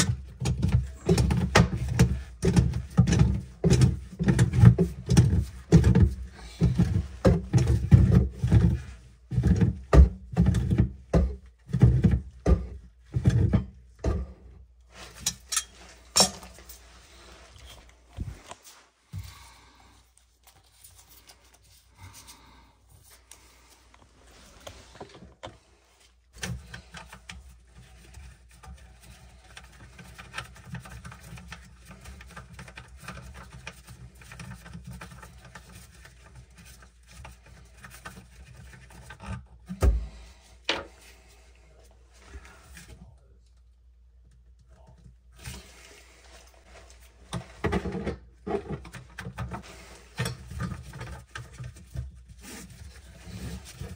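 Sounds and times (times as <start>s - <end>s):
rubbing and scraping on drain parts: 0.0s - 43.0s, 43.8s - 53.9s.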